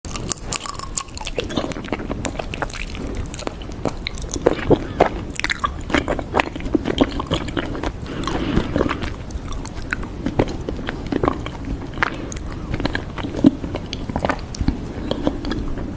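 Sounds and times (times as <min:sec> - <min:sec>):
slime crackling sticky: 0:00.1 - 0:15.1.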